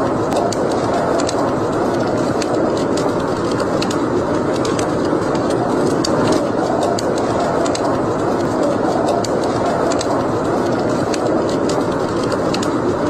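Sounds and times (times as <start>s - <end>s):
steady rushing fire noise: 0.0s - 13.0s
wood fire crackling and popping: 0.0s - 13.0s.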